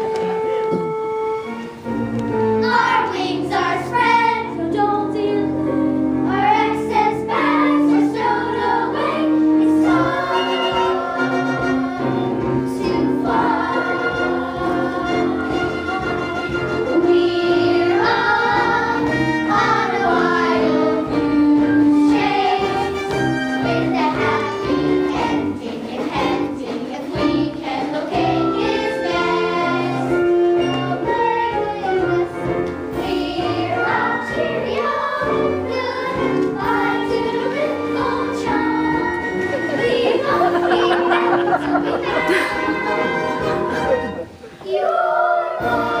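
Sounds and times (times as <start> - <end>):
musical accompaniment with beat: 0.0 - 3.7, 5.8 - 44.6
children's chorus singing: 2.6 - 5.6, 6.2 - 46.0.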